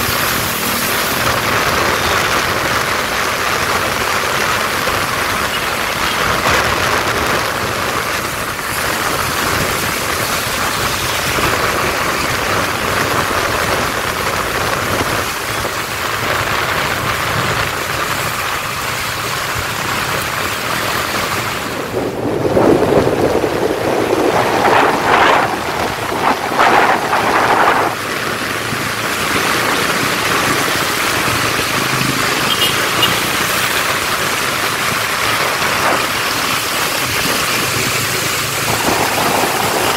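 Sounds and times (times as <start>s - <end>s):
heavy rain: 0.0s - 39.9s
traffic running: 0.0s - 39.9s
tyres on a wet road: 0.0s - 39.9s.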